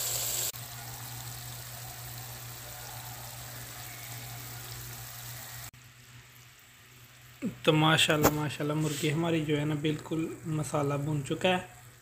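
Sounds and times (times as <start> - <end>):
chicken sizzling in ghee: 0.0 - 12.0.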